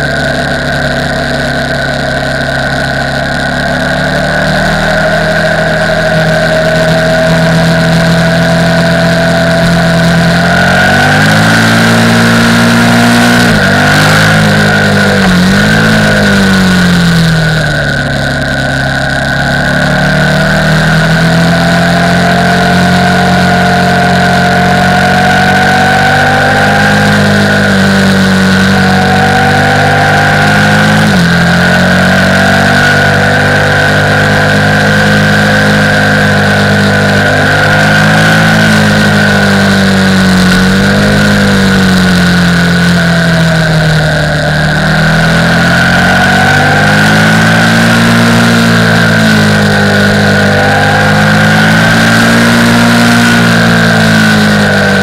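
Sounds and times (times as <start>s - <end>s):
motorcycle engine running: 0.0s - 55.0s
steady high whine: 0.0s - 55.0s.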